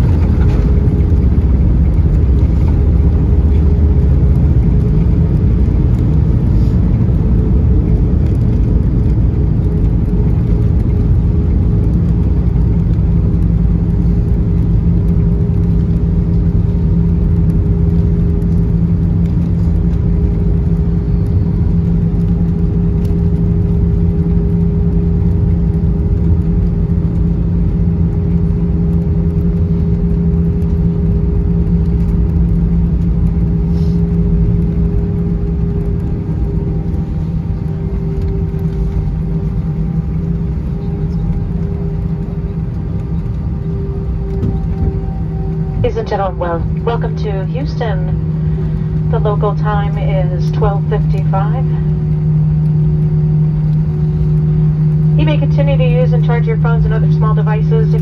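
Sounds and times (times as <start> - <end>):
airliner cabin rumble: 0.0 - 58.0
steady hum: 0.0 - 58.0.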